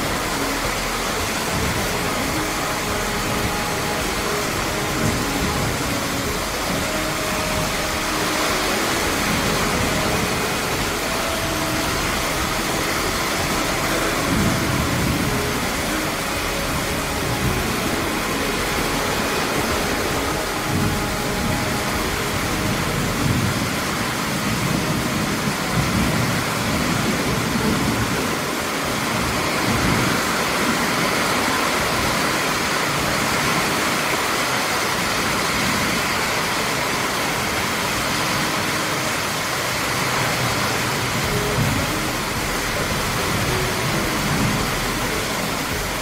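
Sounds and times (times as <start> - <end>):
heavy rain on paving and roofs: 0.0 - 46.0.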